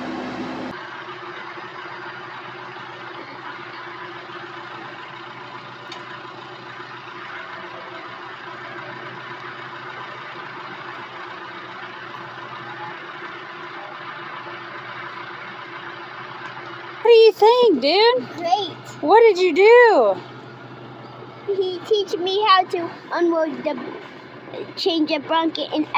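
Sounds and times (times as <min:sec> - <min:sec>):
excavator engine running: 0:00.0 - 0:25.9.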